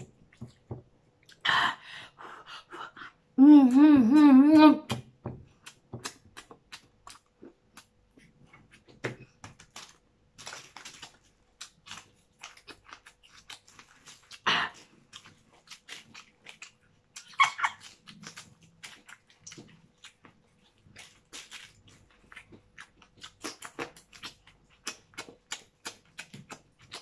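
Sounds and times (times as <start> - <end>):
chewing and mouth smacks: 4.9 - 27.0.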